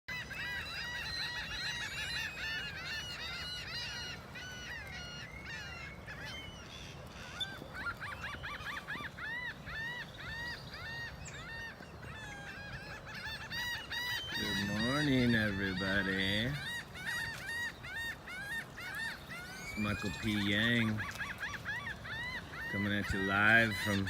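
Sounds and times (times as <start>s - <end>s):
chorus of birds calling: 0.1s - 24.0s.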